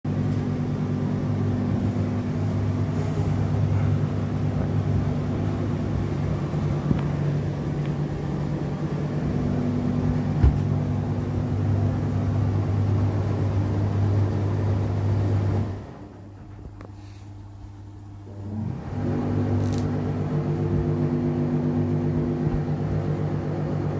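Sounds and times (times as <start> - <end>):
tumble dryer humming: 0.1 - 23.9.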